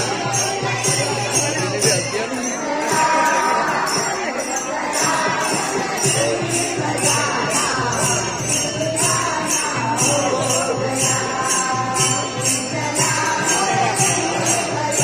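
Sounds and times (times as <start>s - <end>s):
jingling shaken percussion: 0.0s - 15.0s
women singing devotional song: 0.0s - 15.0s.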